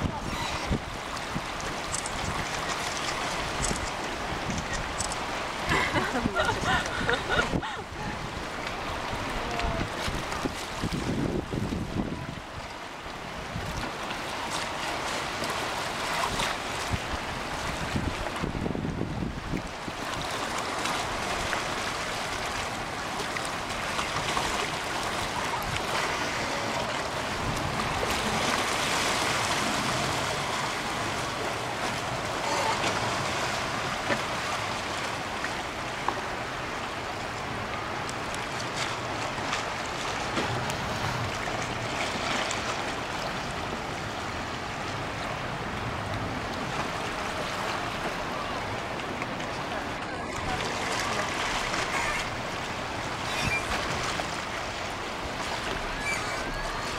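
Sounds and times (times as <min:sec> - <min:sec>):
seawater washing against rocks: 0:00.0 - 0:56.9.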